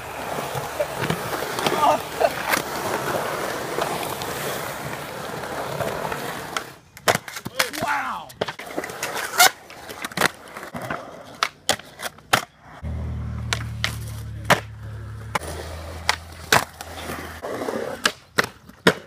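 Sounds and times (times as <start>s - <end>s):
skateboard clacks: 0.0s - 12.8s, 13.4s - 19.0s
skateboard trucks grinding on concrete: 0.0s - 19.0s
skateboard wheels rolling: 0.0s - 19.0s.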